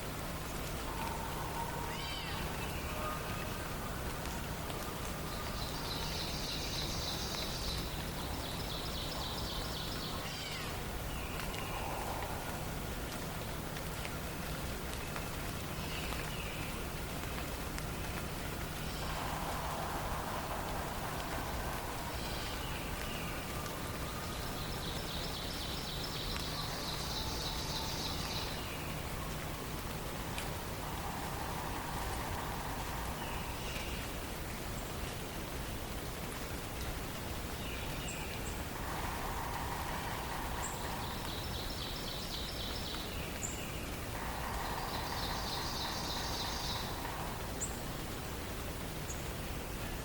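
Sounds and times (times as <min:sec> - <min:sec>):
rain-like forest hiss: 0:00.0 - 0:50.0.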